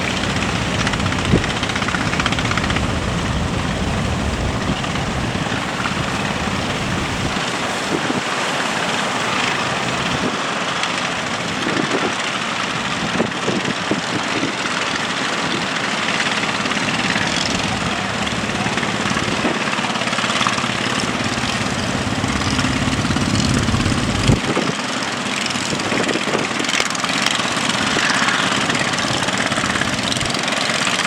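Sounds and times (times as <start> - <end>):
wind on microphone: 0.0 - 15.8, 16.4 - 19.8, 20.6 - 24.8, 27.6 - 30.6
big waves washing: 0.0 - 31.0.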